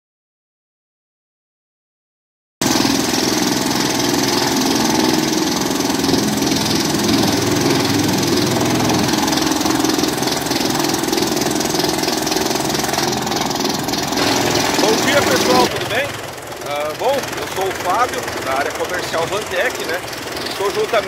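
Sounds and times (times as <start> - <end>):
wood chipper running: 2.6 - 21.0.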